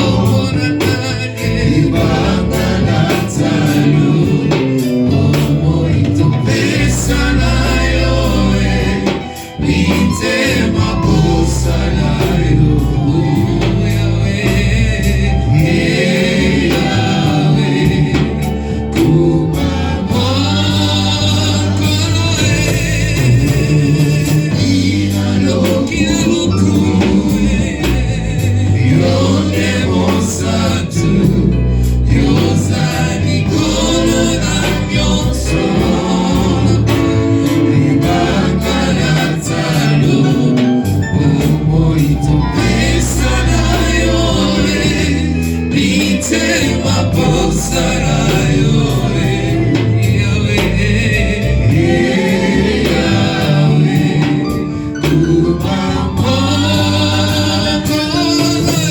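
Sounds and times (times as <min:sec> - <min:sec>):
bass line: 0:00.0 - 0:58.9
choir and congregation singing: 0:00.0 - 0:58.9
percussion hits: 0:00.0 - 0:58.9.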